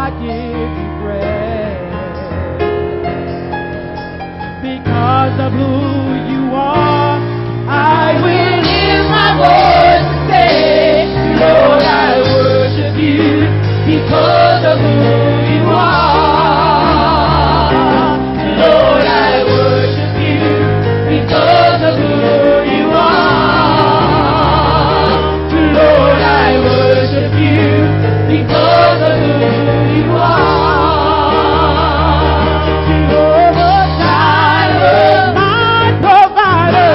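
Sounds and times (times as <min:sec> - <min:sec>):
instrumental backing with bass line: 0:00.0 - 0:36.9
choir singing with vibrato: 0:07.2 - 0:36.9.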